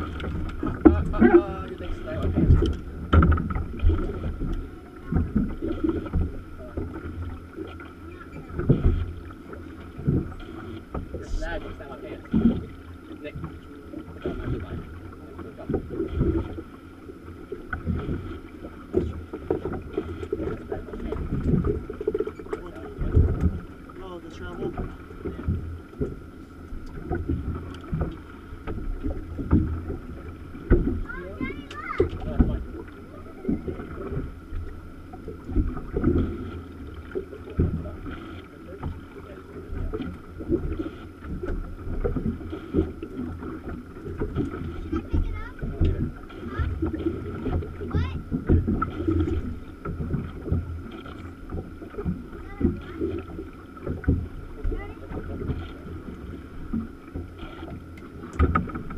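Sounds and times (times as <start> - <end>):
boat knocking and thudding: 0.0 - 58.9
water lapping at hull: 0.0 - 58.9.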